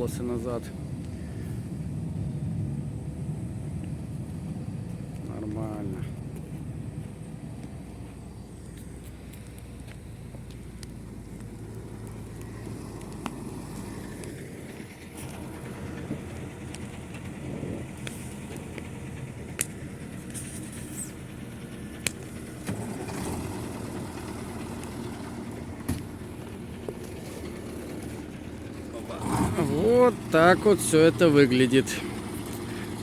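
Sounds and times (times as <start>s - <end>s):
heavy vehicle engine humming: 0.0s - 33.0s.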